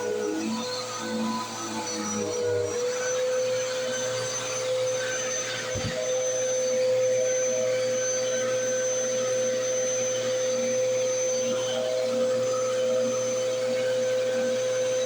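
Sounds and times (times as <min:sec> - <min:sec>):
upright vacuum motor whine: 0:00.0 - 0:15.0.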